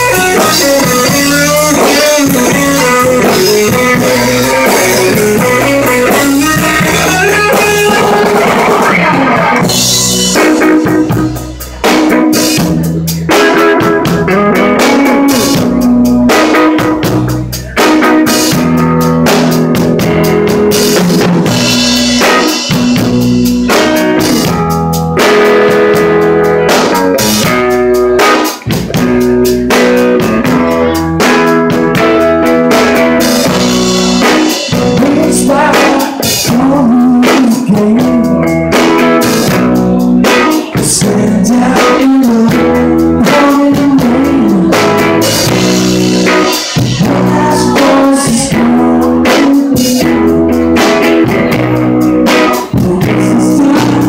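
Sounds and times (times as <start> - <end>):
distorted electric guitar: 0.0 - 54.0
drum kit beat: 0.0 - 54.0.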